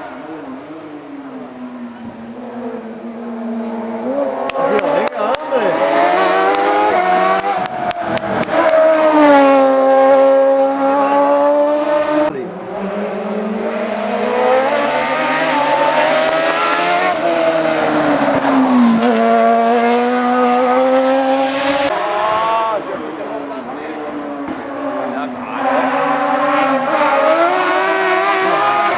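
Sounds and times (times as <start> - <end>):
racing car engines revving: 0.0 - 28.9.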